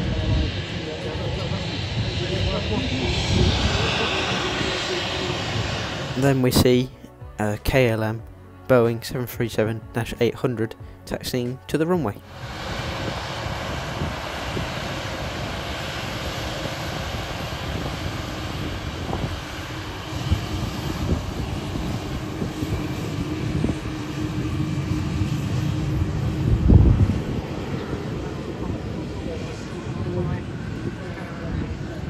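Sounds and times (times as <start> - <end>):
jet engines at taxi power: 0.0 - 6.8, 12.2 - 32.0
low rumbling buffets: 0.0 - 32.0.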